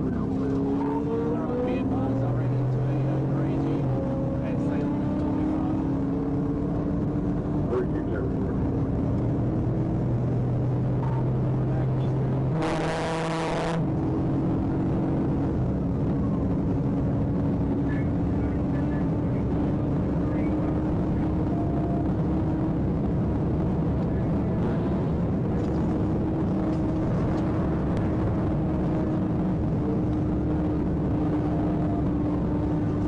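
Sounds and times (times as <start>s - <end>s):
car engine drone: 0.0s - 33.0s
road and wind noise: 0.0s - 33.0s.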